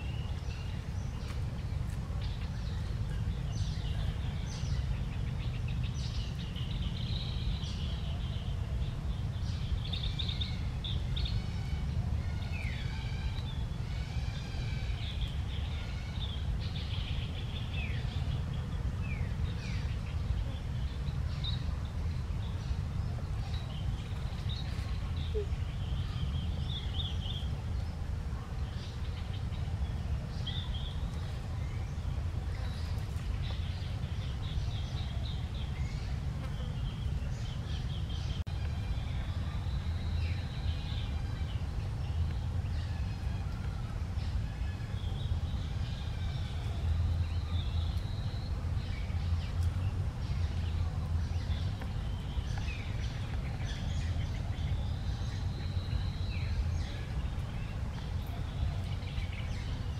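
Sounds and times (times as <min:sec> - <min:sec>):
steady low rumble: 0:00.0 - 0:59.9
wild birds chirping and calling: 0:00.0 - 0:59.9.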